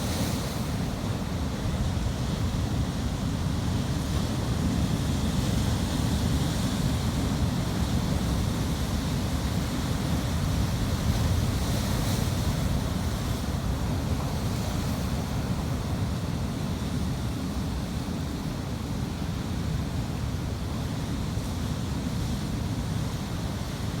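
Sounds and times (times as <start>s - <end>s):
ocean waves breaking on shore: 0.0s - 24.0s.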